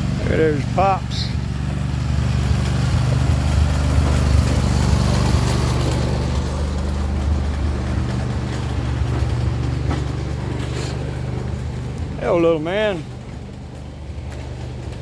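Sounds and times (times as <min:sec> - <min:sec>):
motor droning: 0:00.0 - 0:15.0.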